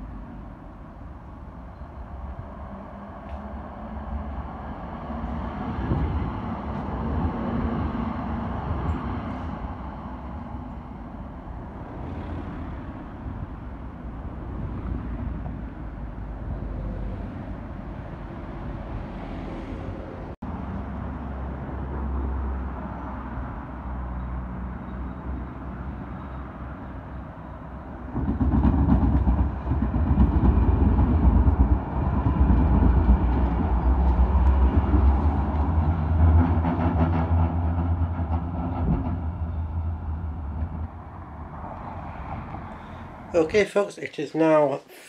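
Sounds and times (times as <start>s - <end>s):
cars driving past: 0.0s - 43.6s
tram approaching: 0.0s - 44.6s.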